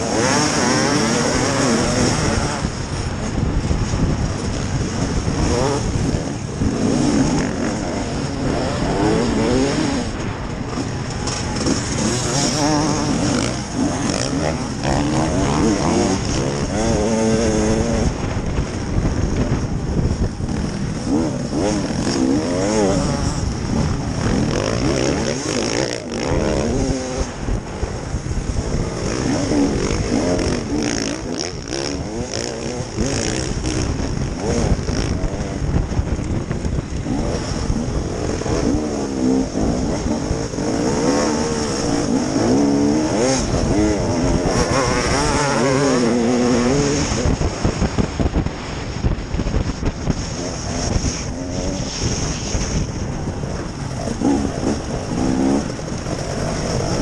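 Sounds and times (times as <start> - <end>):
dirt bikes running nearby: 0.0 - 57.0
motorcycle engine revving: 0.0 - 57.0.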